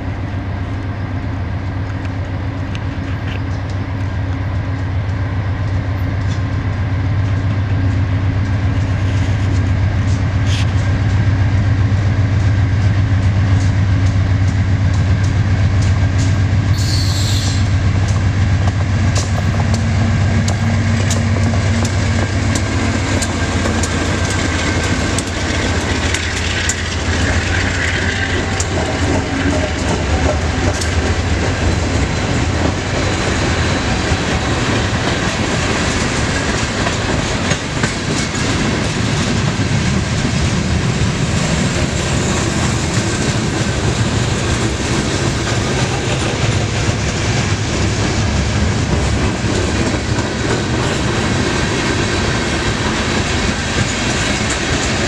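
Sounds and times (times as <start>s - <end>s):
locomotive engines droning: 0.0s - 55.0s
train wheels clicking over rail joints: 1.8s - 55.0s.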